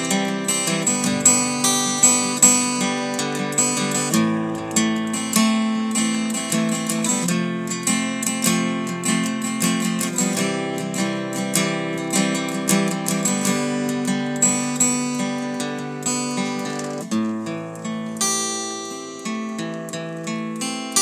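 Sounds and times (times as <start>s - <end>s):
acoustic guitar piece: 0.0s - 21.0s.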